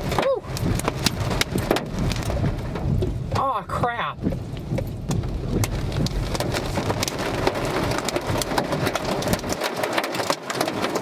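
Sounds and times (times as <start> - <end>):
hail and rain pelting a car: 0.0 - 11.0.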